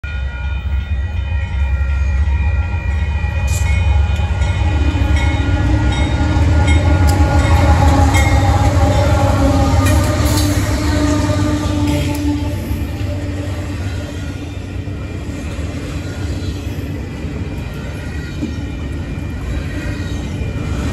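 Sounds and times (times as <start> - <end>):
steady higher tone: 0.0 - 19.5
diesel locomotive engine rumbling: 0.0 - 20.9.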